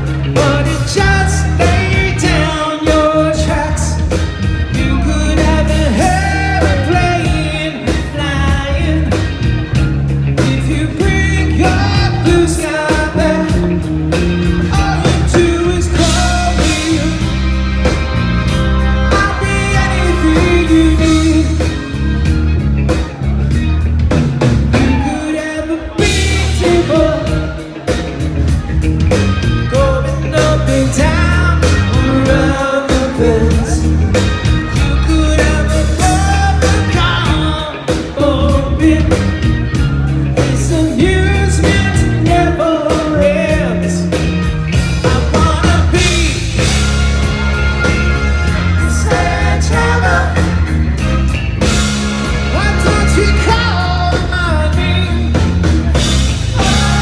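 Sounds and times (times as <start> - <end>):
rock song with lead vocal: 0.0 - 57.0.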